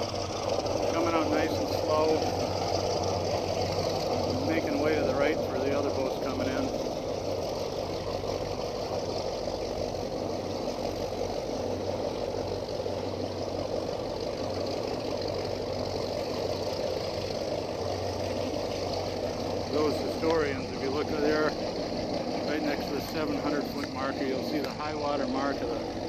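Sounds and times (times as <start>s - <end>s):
boat motors idling: 0.0s - 26.0s.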